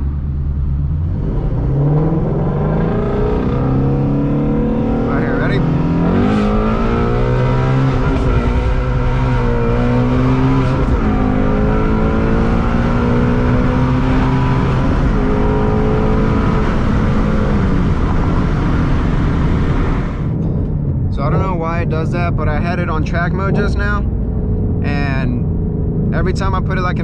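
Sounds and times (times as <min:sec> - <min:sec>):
car engine running loud: 0:00.0 - 0:27.0.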